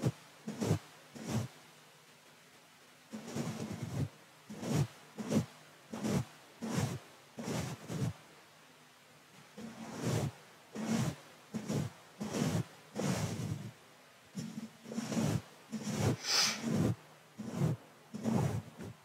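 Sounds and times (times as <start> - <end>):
brush swishing on microphone grille: 0.0 - 1.6, 3.1 - 8.2, 9.6 - 13.8, 14.4 - 19.0.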